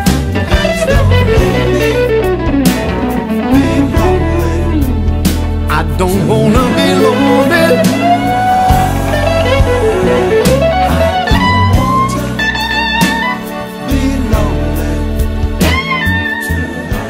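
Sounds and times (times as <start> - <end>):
pop song guitar melody with beat: 0.0 - 17.0.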